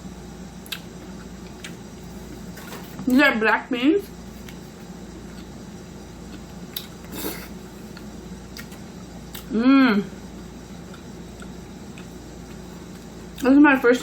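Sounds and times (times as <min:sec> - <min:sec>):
room hum: 0:00.0 - 0:14.0.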